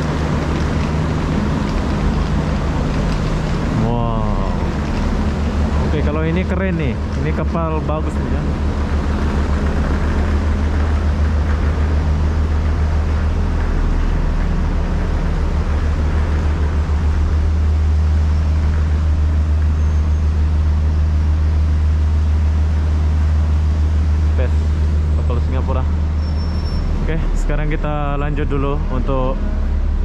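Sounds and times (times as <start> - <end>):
noisy hiss: 0.0 - 30.0
ship engines droning: 0.0 - 30.0.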